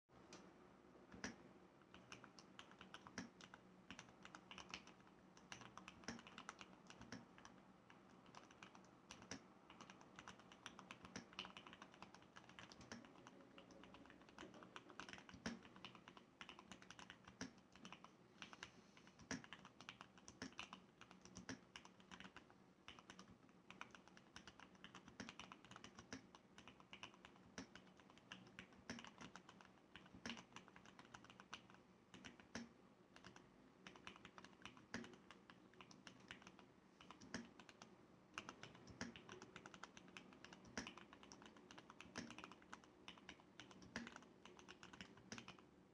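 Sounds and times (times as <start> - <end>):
mechanical keyboard typing: 1.1 - 45.6.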